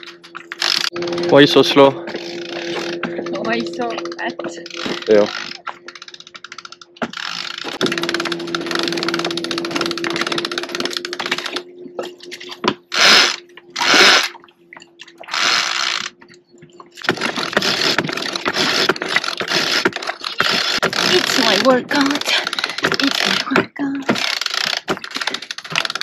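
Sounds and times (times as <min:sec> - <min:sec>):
winch ratcheting: 0:00.0 - 0:26.0.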